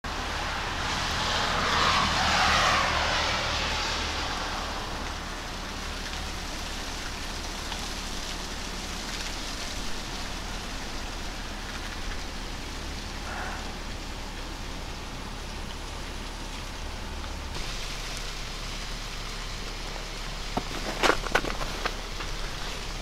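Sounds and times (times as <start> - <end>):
freezing rain hissing: 0.0 - 23.0
tyres hissing on wet road: 0.0 - 23.0.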